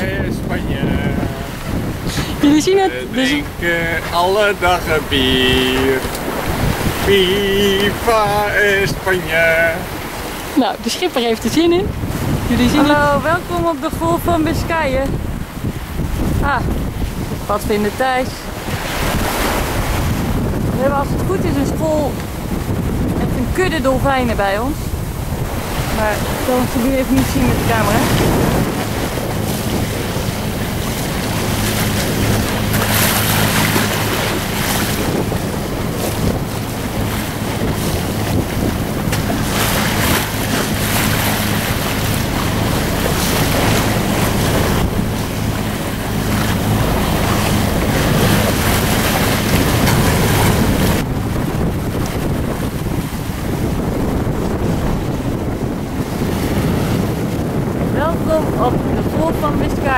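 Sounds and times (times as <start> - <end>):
sea washing around yacht: 0.0 - 59.9
wind buffeting microphone: 0.0 - 59.9.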